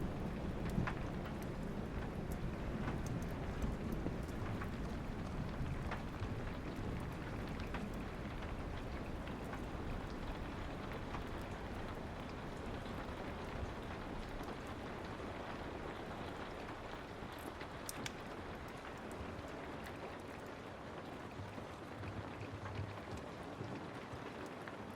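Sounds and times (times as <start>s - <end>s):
wood fire crackling: 0.0s - 21.2s
steady rain: 0.0s - 24.9s.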